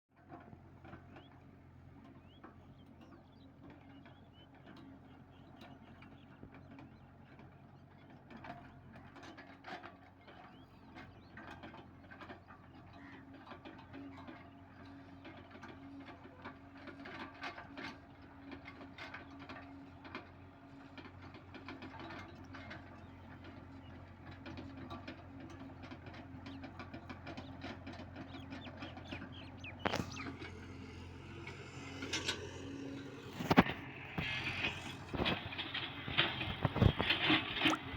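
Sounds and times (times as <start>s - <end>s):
excavator diesel engine running: 0.2s - 37.9s.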